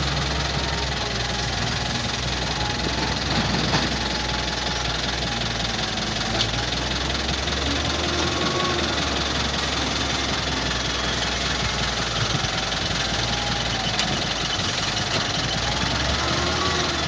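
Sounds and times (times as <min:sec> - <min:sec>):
wheel loader diesel engine: 0:00.0 - 0:17.0.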